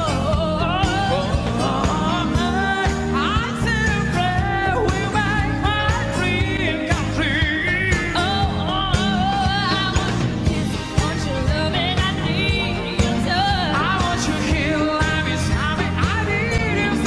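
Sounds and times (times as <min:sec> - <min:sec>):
band with piano and beat: 0:00.0 - 0:17.0
woman singing: 0:00.0 - 0:17.0.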